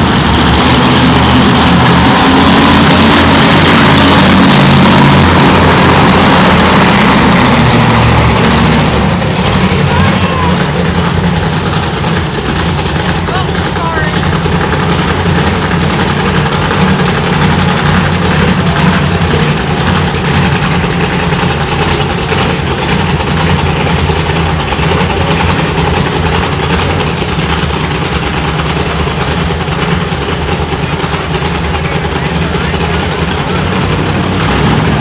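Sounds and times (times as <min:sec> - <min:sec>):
truck engine running at low revs: 0:00.0 - 0:35.0.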